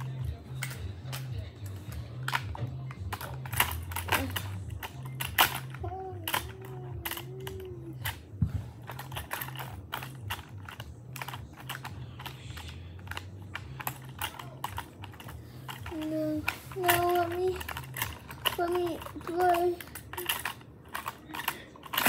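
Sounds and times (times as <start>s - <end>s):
plastic toy clicks and clacks: 0.0s - 22.0s.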